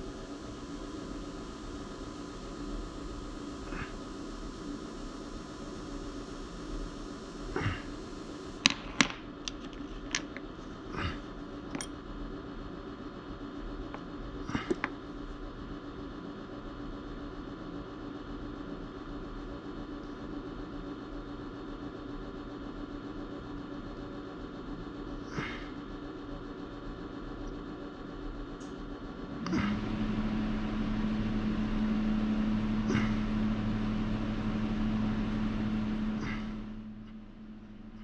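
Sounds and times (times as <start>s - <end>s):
background machine drone: 0.0s - 38.0s
loud machine hum: 0.0s - 38.0s.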